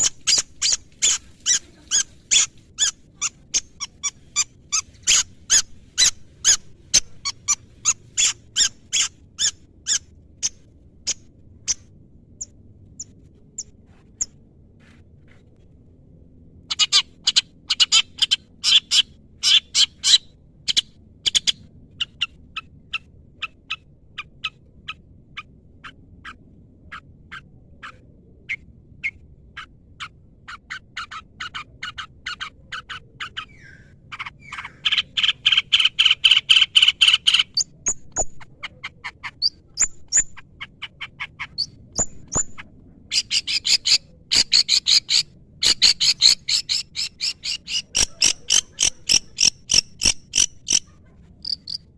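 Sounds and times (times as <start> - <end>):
bird chattering: 0.0 - 11.8, 16.7 - 51.9.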